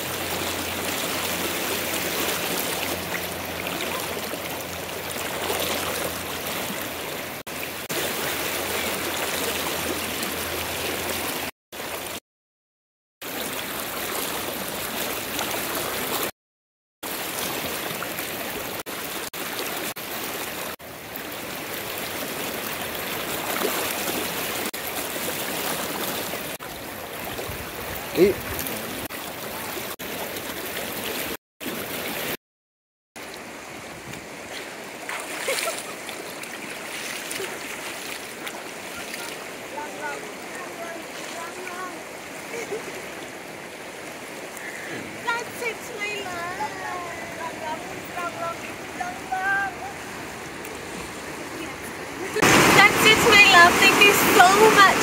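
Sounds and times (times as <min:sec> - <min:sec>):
river water rushing: 0:00.0 - 0:12.2, 0:13.2 - 0:16.3, 0:17.0 - 0:32.4, 0:33.2 - 0:55.0.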